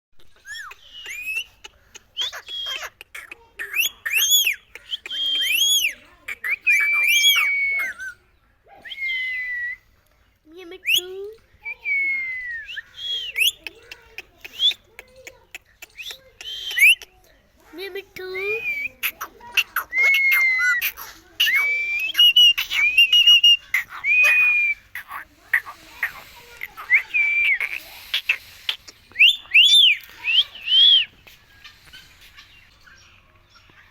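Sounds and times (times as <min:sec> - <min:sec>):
parrot whistling and chattering: 0:00.2 - 0:08.2, 0:10.8 - 0:17.2, 0:17.8 - 0:32.8.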